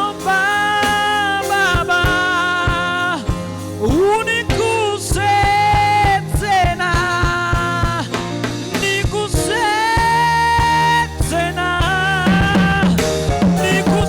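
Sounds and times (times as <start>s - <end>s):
gospel band music: 0.0s - 14.0s
steady drum beat: 0.0s - 14.0s.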